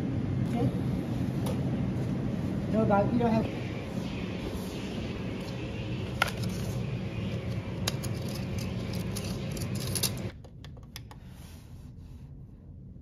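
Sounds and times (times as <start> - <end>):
hum of busy room: 0.0 - 13.0.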